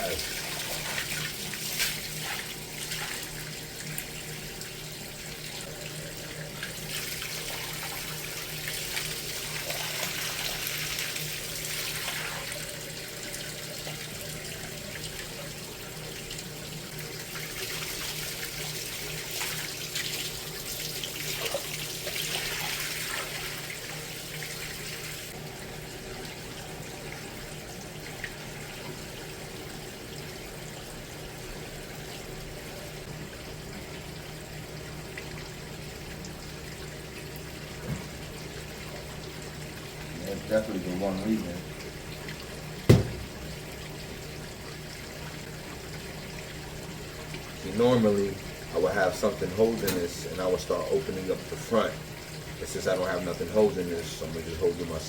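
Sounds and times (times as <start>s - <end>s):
water draining and splashing: 0.0s - 55.0s.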